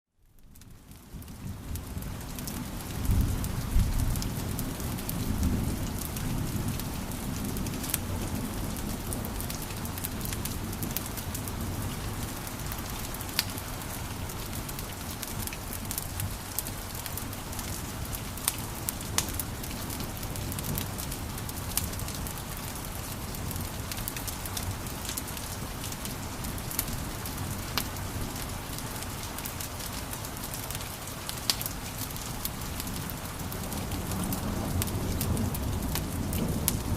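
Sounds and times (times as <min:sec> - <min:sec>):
sharp pops and snaps of fire: 0:00.2 - 0:36.9
wood fire crackling: 0:00.2 - 0:36.9.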